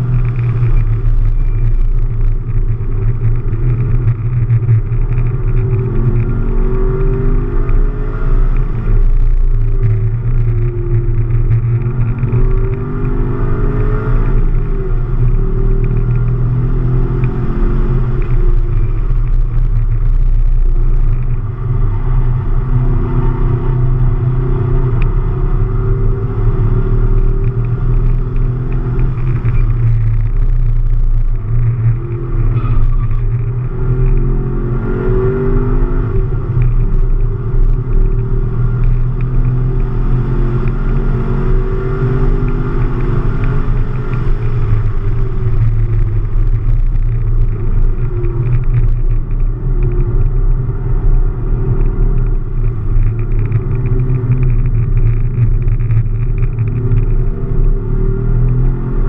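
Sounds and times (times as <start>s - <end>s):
heavy low rumble: 0.0s - 59.0s.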